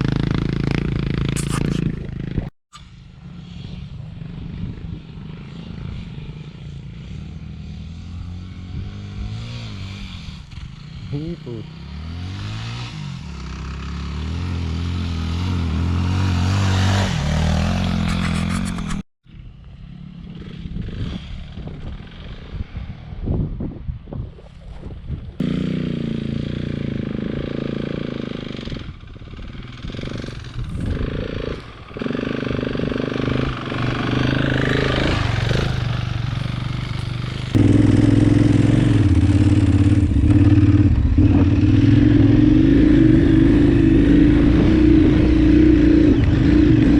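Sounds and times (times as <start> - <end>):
motorcycle engine revving: 0.0 - 23.3, 25.4 - 46.9.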